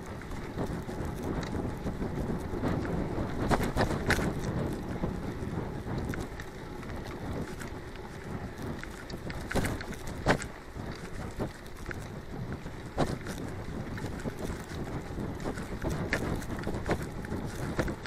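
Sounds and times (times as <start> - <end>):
bike rattling and knocking: 0.0 - 18.0
tyres rumbling on dirt: 0.0 - 18.0
wind rushing over microphone: 0.0 - 18.0.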